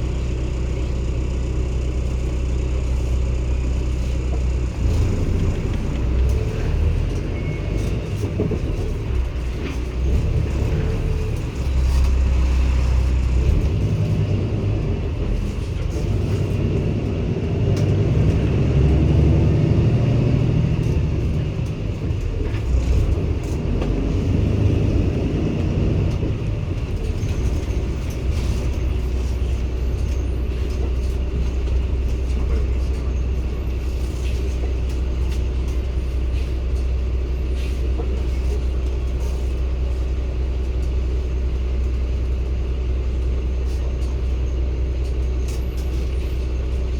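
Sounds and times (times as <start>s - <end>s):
diesel bus engine running: 0.0s - 46.9s.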